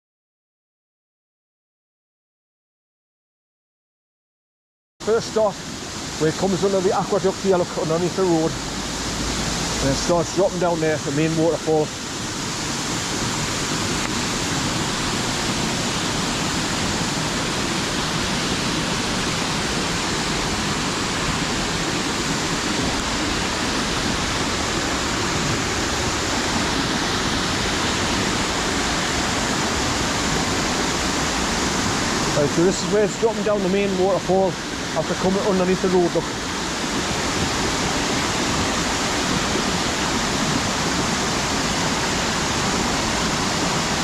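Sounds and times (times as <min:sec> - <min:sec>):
waterfall rushing: 0:05.0 - 0:44.0.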